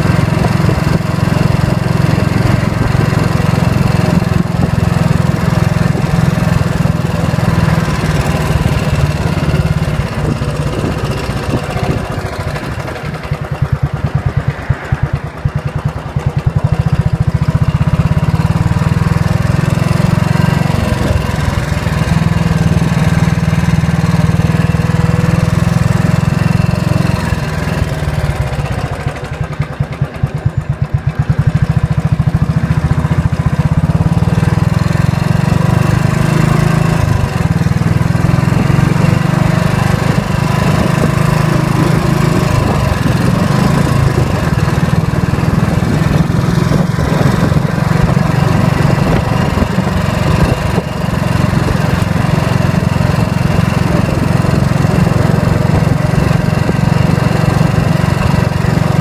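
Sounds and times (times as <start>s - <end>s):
single-cylinder motorcycle engine: 0.0s - 59.0s.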